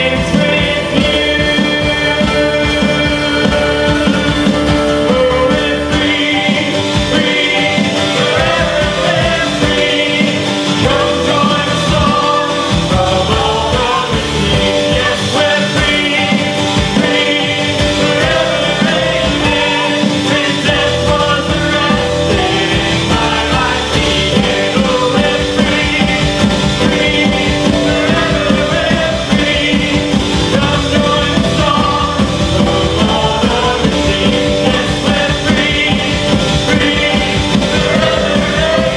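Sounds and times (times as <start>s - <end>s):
drums: 0.0s - 38.9s
live band playing rock song: 0.0s - 38.9s
person singing: 0.0s - 38.9s.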